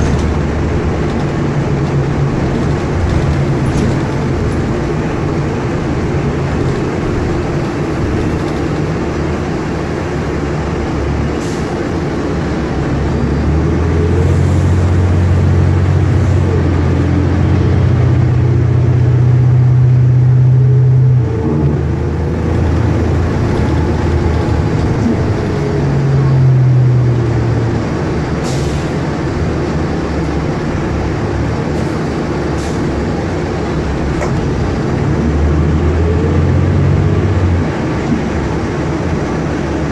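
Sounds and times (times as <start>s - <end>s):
bus engine pulling: 0.0s - 39.9s.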